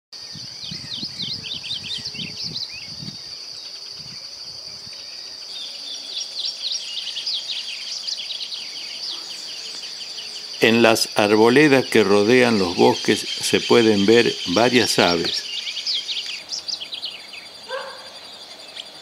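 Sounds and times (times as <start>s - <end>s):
birds chirping: 0.2s - 19.0s
high-pitched insect drone: 0.2s - 19.0s.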